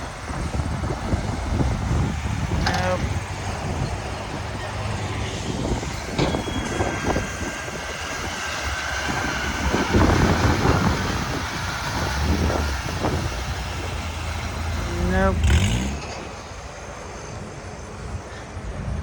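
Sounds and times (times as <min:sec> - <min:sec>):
truck diesel engine rumble: 0:00.0 - 0:19.0.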